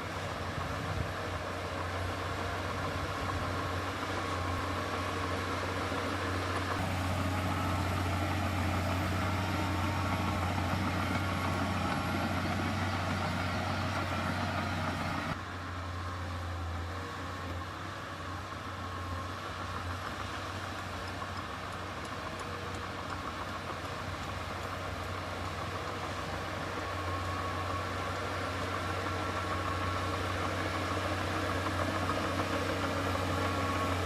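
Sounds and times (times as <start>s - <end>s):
heavy diesel engine humming: 0.0s - 34.0s.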